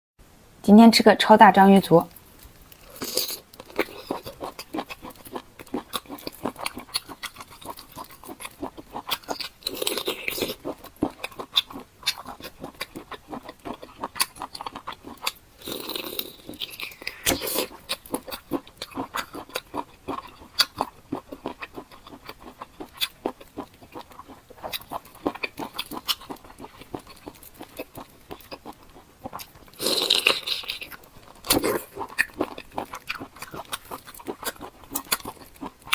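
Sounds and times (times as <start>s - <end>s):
wet chewing: 2.1s - 35.9s.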